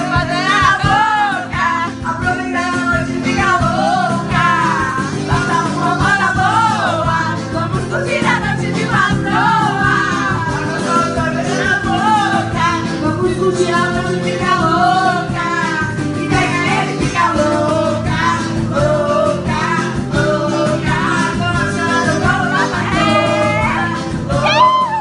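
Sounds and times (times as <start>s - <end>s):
song with singing over band: 0.0s - 25.0s.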